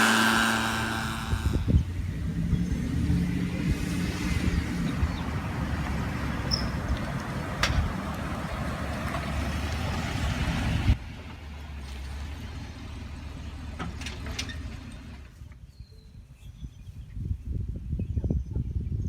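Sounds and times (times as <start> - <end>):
engine humming at low revs: 0.0 - 15.6.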